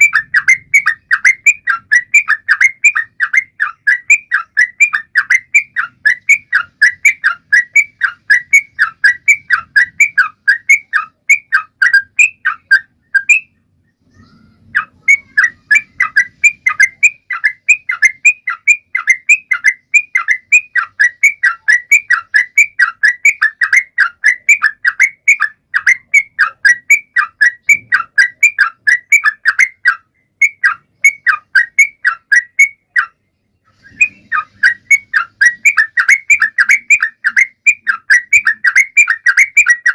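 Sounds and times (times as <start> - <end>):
bulbul singing whistled notes: 0.0 - 39.9.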